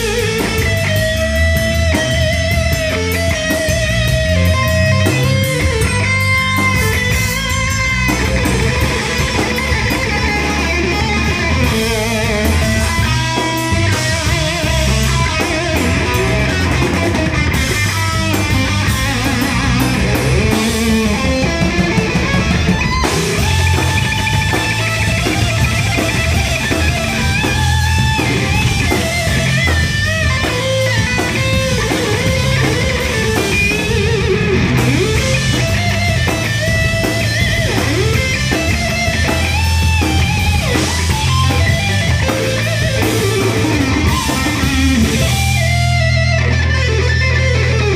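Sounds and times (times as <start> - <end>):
bass guitar: 0.0 - 47.9
drum kit: 0.0 - 47.9
electric guitar: 0.0 - 47.9.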